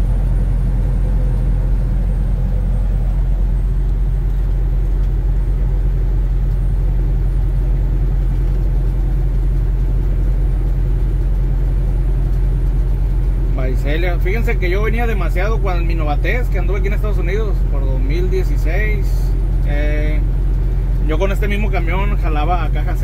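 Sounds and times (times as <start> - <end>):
road noise: 0.0 - 23.0
truck diesel engine drone: 0.0 - 23.0.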